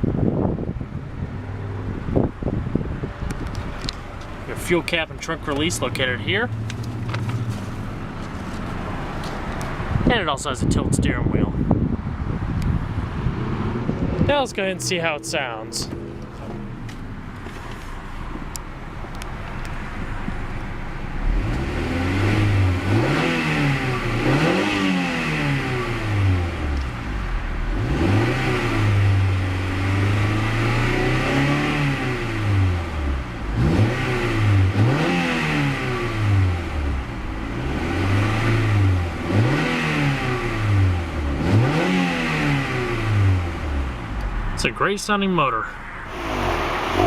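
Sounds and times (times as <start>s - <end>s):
car engine idling and revving: 0.0s - 10.7s, 11.4s - 44.6s, 45.8s - 47.0s.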